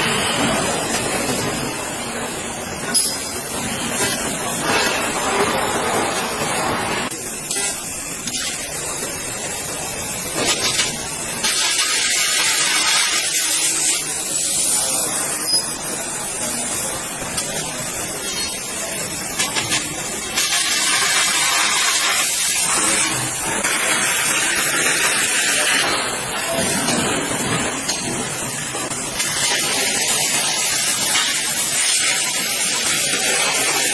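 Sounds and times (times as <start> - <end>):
laser cutter gas hiss: 0.0 - 33.9.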